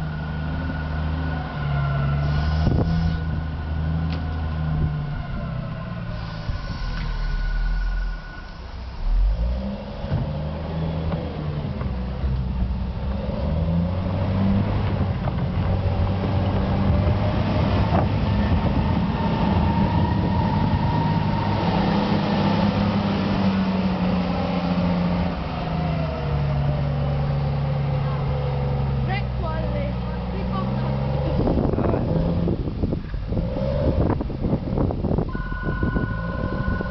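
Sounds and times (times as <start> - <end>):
vehicle engine revving: 0.0 - 36.9.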